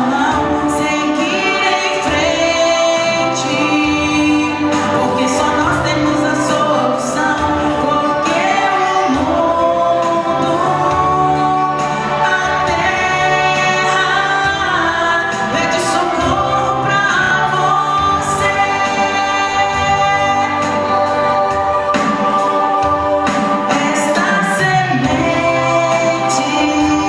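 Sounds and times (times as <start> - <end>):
choir-like singing with accompaniment: 0.0 - 27.0.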